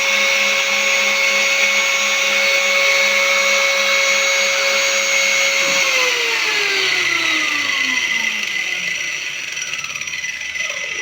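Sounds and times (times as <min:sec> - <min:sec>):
spindle motor whining and spinning down: 0:00.0 - 0:11.0.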